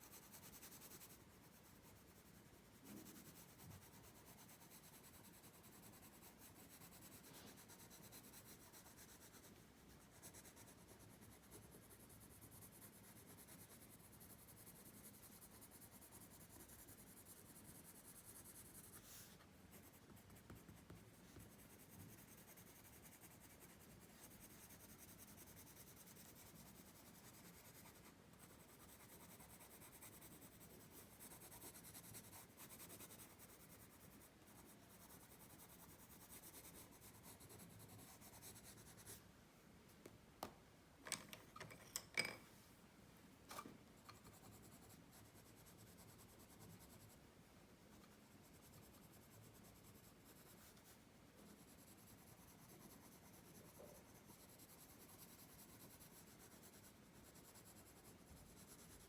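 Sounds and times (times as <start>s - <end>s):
pencil scratching on paper: 0.0s - 39.2s, 44.0s - 47.2s, 47.9s - 59.0s.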